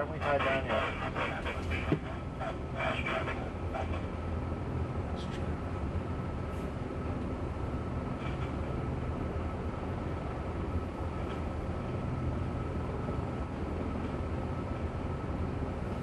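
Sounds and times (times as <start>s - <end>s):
helicopter engine and rotor drone: 0.0s - 16.0s
high turbine whine: 0.0s - 16.0s.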